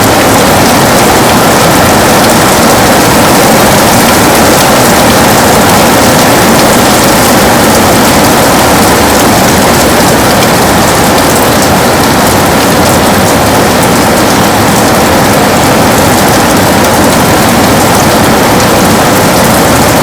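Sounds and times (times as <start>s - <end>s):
heavy rain on a window: 0.0s - 20.0s.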